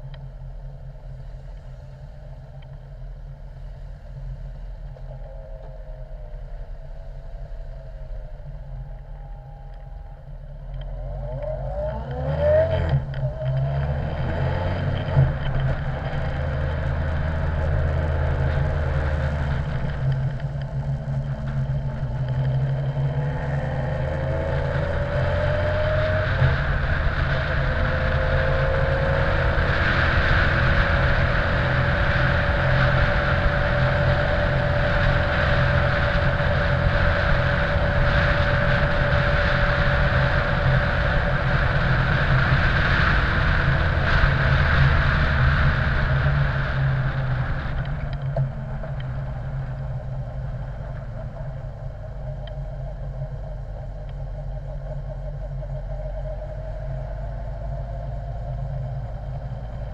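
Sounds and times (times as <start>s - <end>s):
wind rush on camera: 0.0s - 59.9s
motorcycle engine accelerating: 4.9s - 59.9s.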